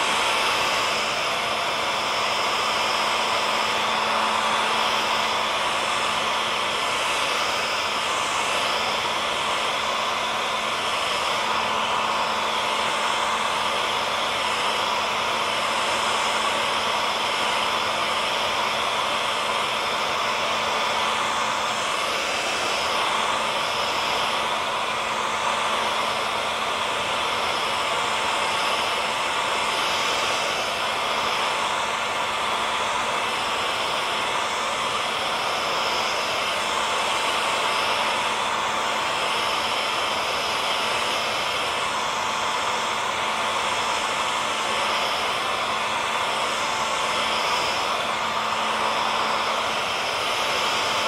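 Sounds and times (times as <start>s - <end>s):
hair dryer running: 0.0s - 51.0s.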